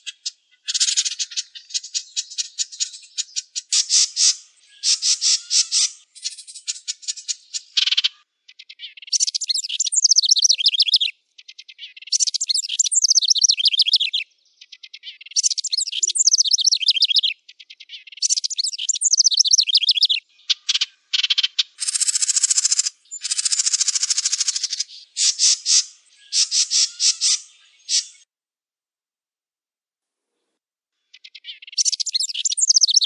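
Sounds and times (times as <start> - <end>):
wren singing trilled songs: 0.0 - 28.2, 31.1 - 33.0.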